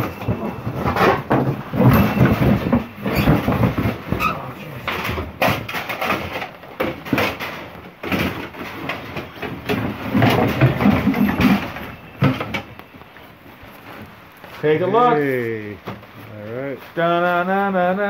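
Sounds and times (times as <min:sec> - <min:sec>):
junk clattering and scraping: 0:00.0 - 0:15.2.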